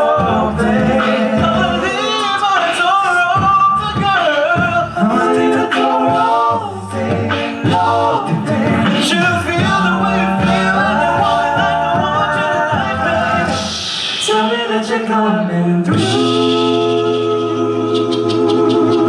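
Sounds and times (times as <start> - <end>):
male a cappella group singing: 0.0 - 19.0.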